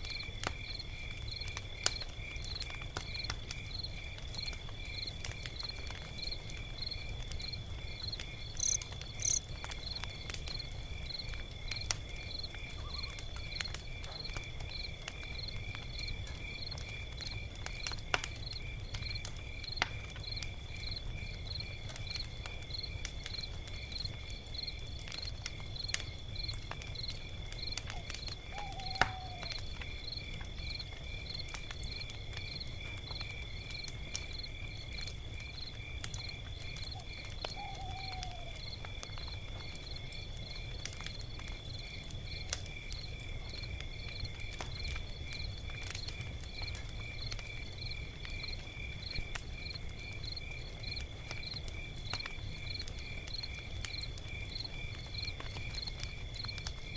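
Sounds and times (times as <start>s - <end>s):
crickets chirping: 0.0s - 17.5s, 18.4s - 56.9s
log fire crackling and popping: 0.0s - 56.9s.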